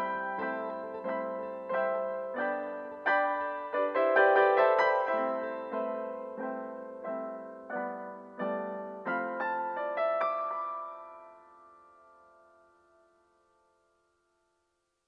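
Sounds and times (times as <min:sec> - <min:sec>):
slow piano notes and chords: 0:00.0 - 0:14.3.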